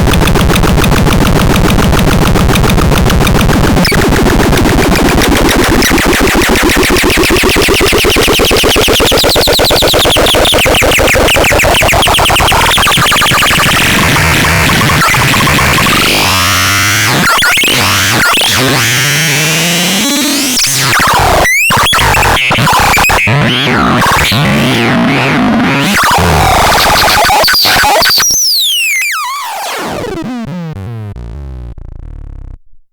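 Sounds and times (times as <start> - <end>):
harsh pulsing synthesizer: 0.0 - 32.6.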